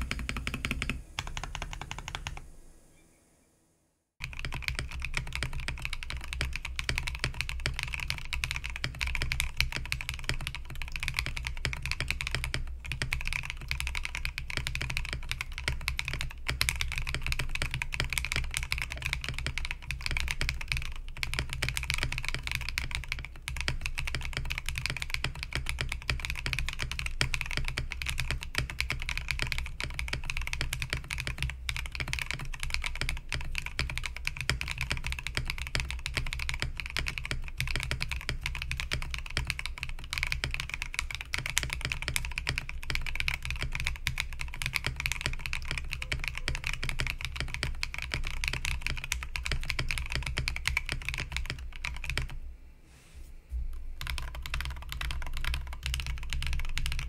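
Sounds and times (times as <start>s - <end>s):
mechanical keyboard typing: 0.0s - 2.5s, 4.2s - 52.4s, 54.0s - 57.0s.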